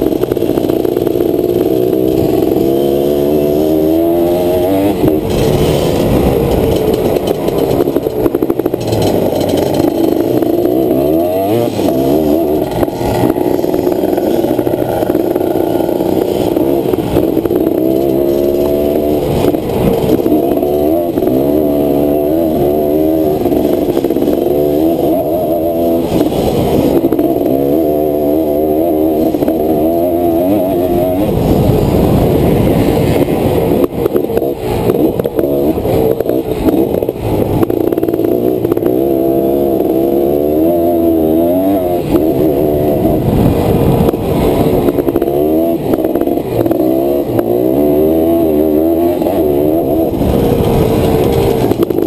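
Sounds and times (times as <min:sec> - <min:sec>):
two-stroke engine revving: 0:00.0 - 0:52.0.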